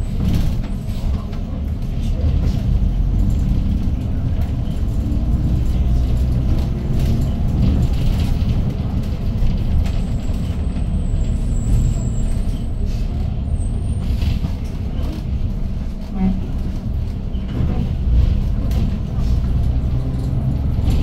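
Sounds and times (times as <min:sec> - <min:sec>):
bus engine rumble: 0:00.0 - 0:21.0
road noise: 0:00.0 - 0:21.0.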